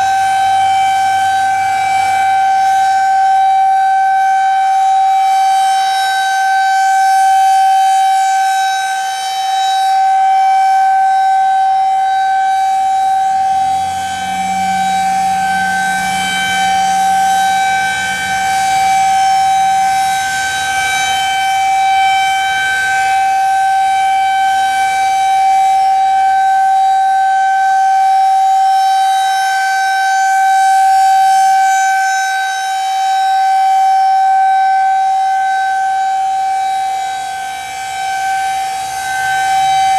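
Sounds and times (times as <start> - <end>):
tornado warning siren: 0.0 - 39.9.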